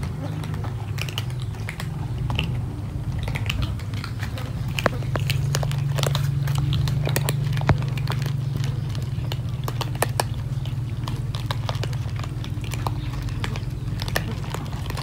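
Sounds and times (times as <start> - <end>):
cats crunching dry kibble: 0.0 - 15.0
steady low hum: 0.0 - 15.0.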